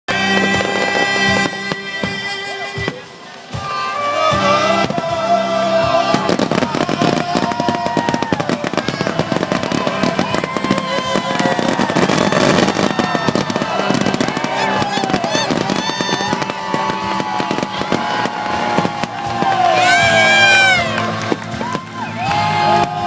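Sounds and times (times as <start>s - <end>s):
fireworks crackling and popping: 0.1s - 23.0s
music playing: 0.1s - 23.0s.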